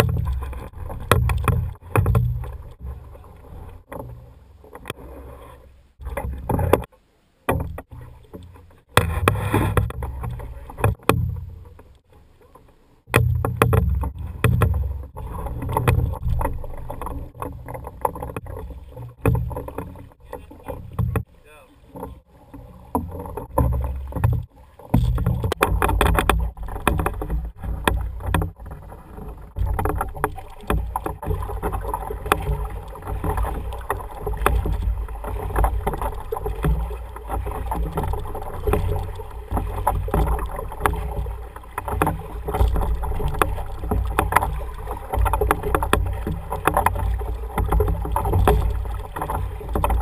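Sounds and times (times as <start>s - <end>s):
oar knocks: 0.0s - 5.0s, 7.5s - 11.8s, 13.1s - 50.0s
oars dipping and splashing: 0.0s - 50.0s.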